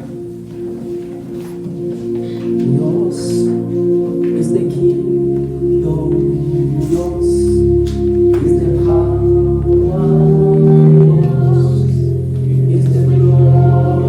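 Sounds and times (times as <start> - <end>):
keyboard sustained chords: 0.0 - 14.0
voices singing: 0.0 - 14.0.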